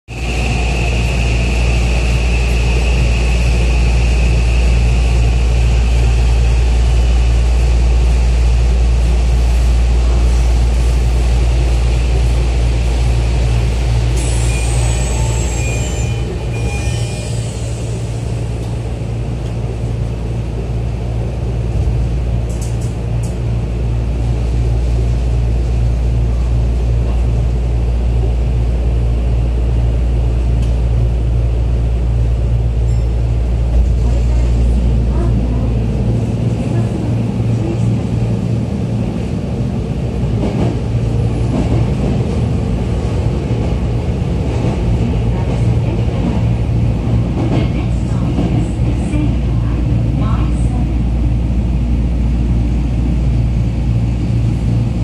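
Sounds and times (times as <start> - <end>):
subway car hum: 0.1 - 55.0.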